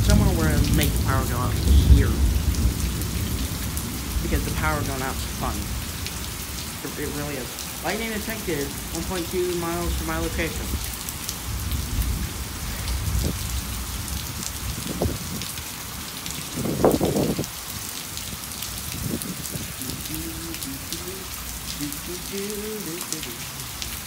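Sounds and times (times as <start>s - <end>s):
steady rain falling: 0.0s - 24.0s
thunder rumbling: 0.0s - 24.0s.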